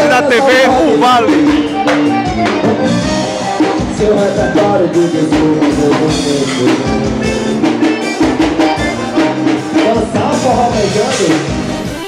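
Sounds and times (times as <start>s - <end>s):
drum kit beat: 0.0s - 12.0s
live band music: 0.0s - 12.0s
person singing: 0.0s - 12.0s.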